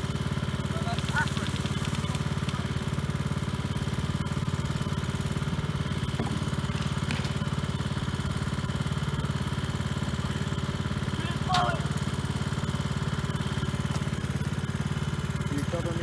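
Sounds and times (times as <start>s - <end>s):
small engine idling: 0.0s - 16.0s.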